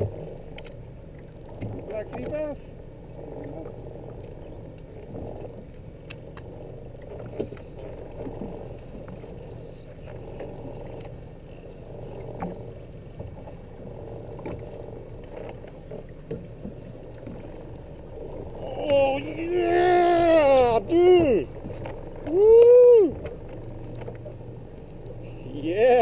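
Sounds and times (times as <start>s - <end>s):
boat engine low rumble: 0.0s - 26.0s.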